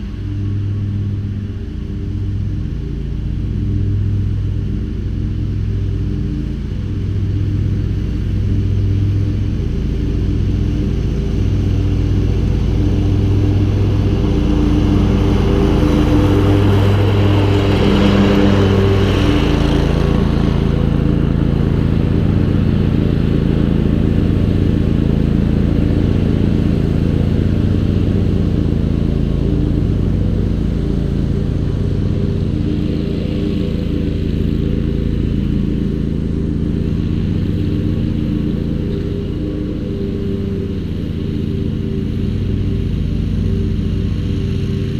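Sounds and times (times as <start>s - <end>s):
mower engine running: 0.0s - 44.9s.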